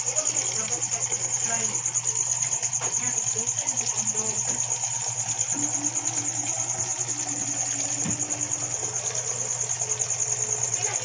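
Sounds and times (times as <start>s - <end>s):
aquarium pump humming: 0.0s - 11.0s
water churning: 0.0s - 11.0s.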